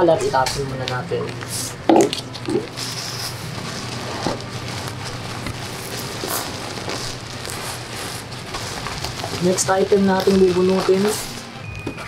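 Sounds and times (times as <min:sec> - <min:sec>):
bubble wrap and bag crinkling: 0:00.0 - 0:12.0.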